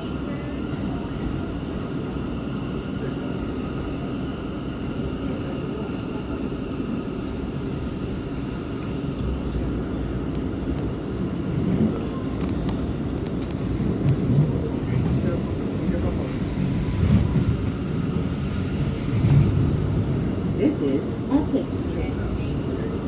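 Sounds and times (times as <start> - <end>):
subway car rumbling on track: 0.0 - 23.0.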